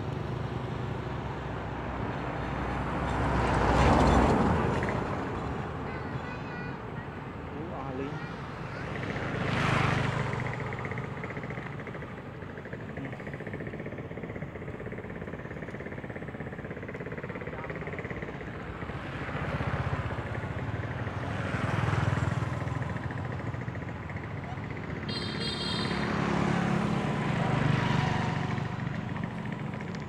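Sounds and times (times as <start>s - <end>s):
motorbike engines humming: 0.0s - 30.0s
motorbikes passing: 0.0s - 30.0s.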